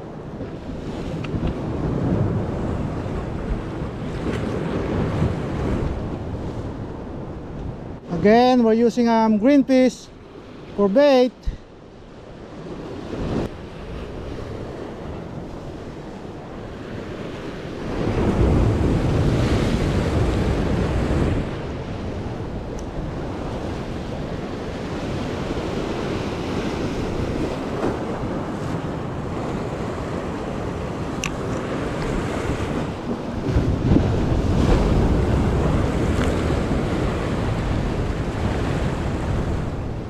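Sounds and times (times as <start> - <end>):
ocean surf washing over rocks: 0.0 - 40.0
wind buffeting microphone: 0.0 - 40.0.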